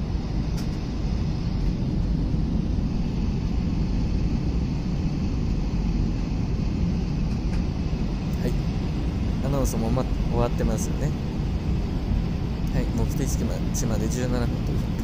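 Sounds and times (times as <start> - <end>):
airliner cabin engine noise: 0.0 - 15.0.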